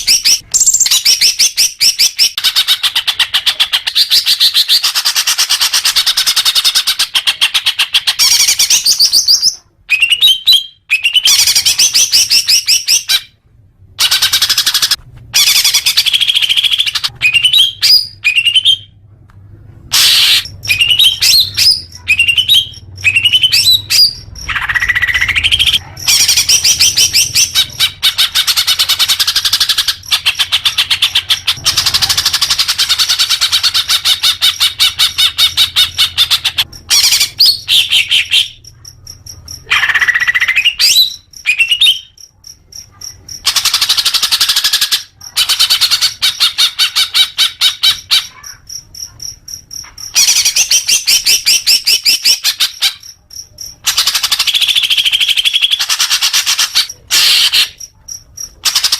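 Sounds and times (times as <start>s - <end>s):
bird chattering song: 0.0s - 13.3s, 14.0s - 19.0s, 19.9s - 58.9s.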